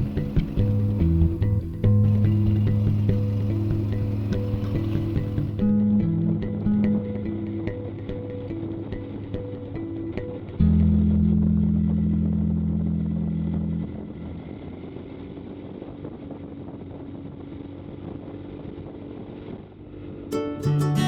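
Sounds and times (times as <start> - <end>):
motorcycle engine hum: 0.0 - 20.3
wind and road noise: 0.0 - 20.4.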